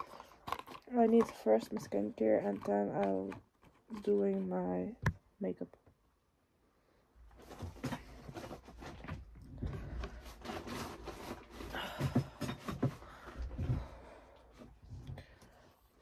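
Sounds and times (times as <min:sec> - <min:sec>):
objects rustling and knocking: 0:00.0 - 0:05.2, 0:07.3 - 0:15.6.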